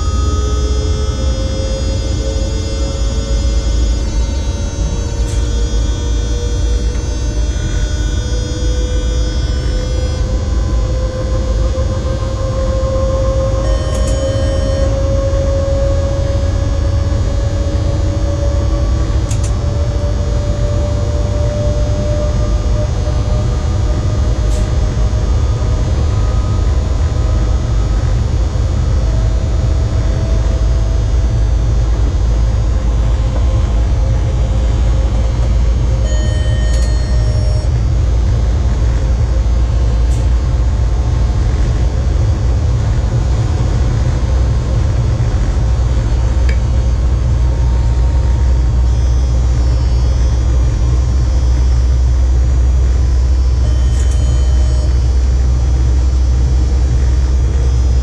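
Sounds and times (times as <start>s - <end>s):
faint whining tones: 0.0s - 58.0s.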